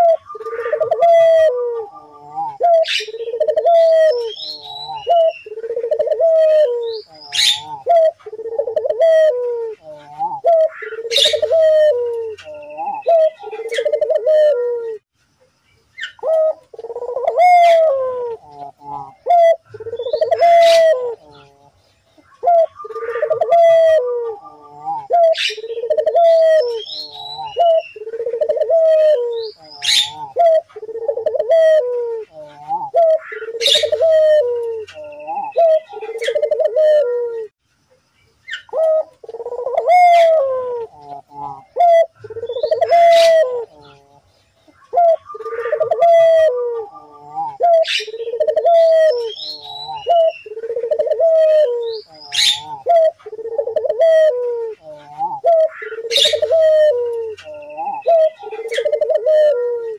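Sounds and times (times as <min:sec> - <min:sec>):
dove cooing: 0:00.0 - 0:15.0, 0:16.0 - 0:37.5, 0:38.5 - 0:59.9.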